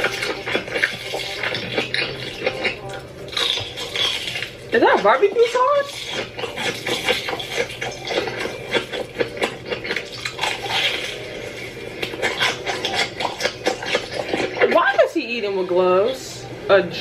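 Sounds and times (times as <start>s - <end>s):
crunching and chewing: 0.0s - 14.7s.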